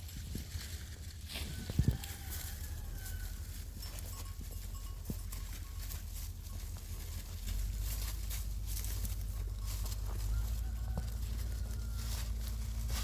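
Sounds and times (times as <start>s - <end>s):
flock of sheep moving: 0.0s - 13.0s.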